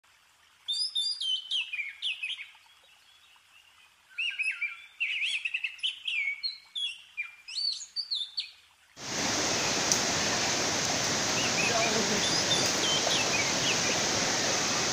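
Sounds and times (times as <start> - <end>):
songbird singing: 0.7 - 14.9.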